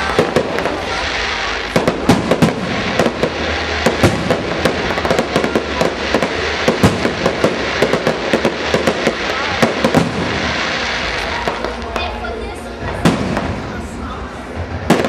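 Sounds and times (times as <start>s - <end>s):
firework shells bursting: 0.0s - 12.1s.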